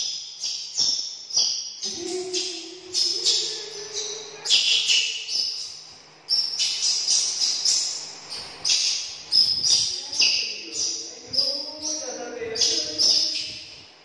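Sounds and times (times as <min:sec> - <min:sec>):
baby monkey screeching: 0:00.0 - 0:13.7.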